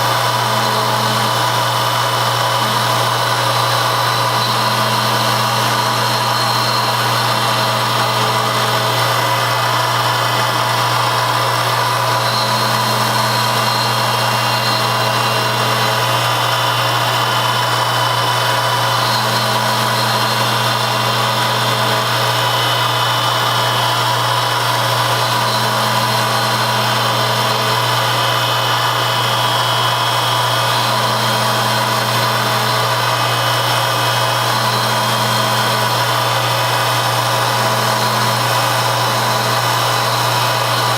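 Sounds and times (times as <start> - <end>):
machine tool motor hum: 0.0 - 40.9
second machine tone: 0.0 - 40.9.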